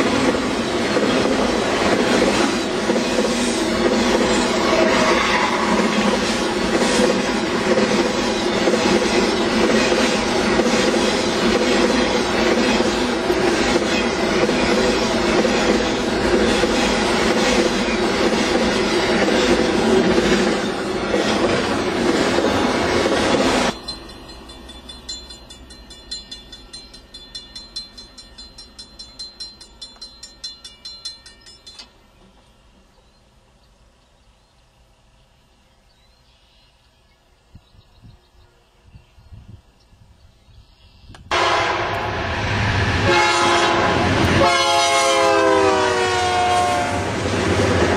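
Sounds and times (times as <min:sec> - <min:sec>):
freight train rumbling past: 0:00.0 - 0:35.1, 0:41.2 - 0:47.9.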